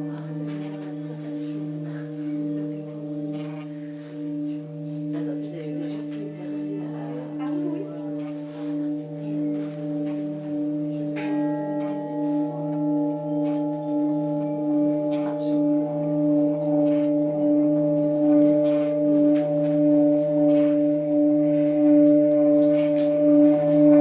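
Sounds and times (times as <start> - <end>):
singing bowl humming: 0.0 - 24.0.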